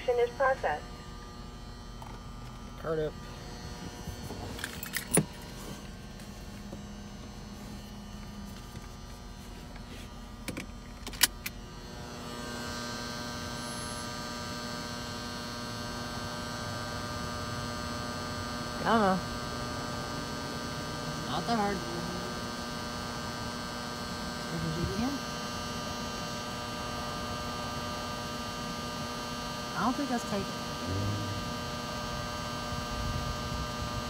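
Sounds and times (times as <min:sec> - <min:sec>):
pay terminal electrical hum: 0:00.0 - 0:34.0.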